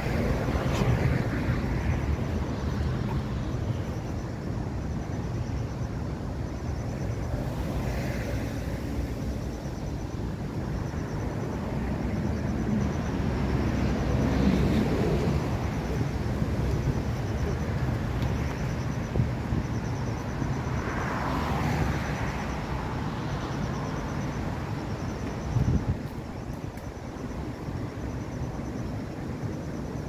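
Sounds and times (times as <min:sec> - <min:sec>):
wind buffeting microphone: 0:00.0 - 0:20.8, 0:23.7 - 0:30.0
road traffic rumble: 0:00.0 - 0:30.0.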